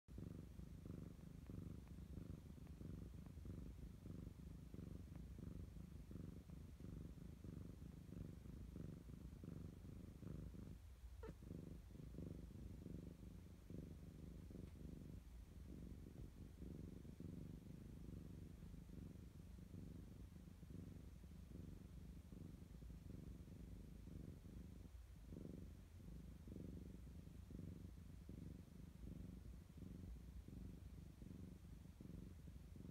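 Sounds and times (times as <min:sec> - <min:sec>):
cat purring: 0:00.1 - 0:32.9.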